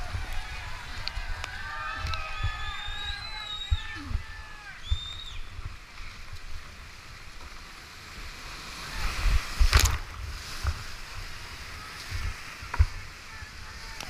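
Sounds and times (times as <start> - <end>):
water crashing over camera: 0.0 - 14.0
whitewater rapids rushing: 0.0 - 14.0.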